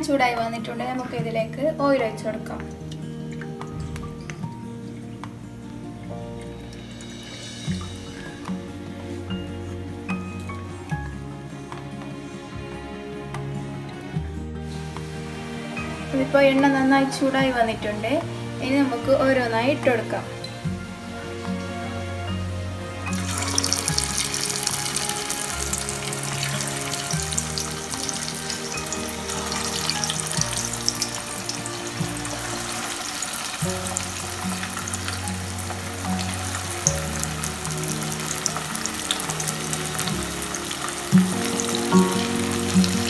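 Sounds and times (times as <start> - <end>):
background music low notes: 0.0 - 43.0
deep-frying sizzle: 2.0 - 43.0.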